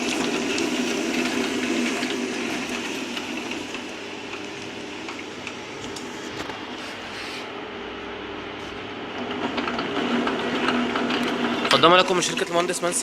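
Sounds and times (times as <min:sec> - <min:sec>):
machine belt and fan hum: 0:00.0 - 0:13.0.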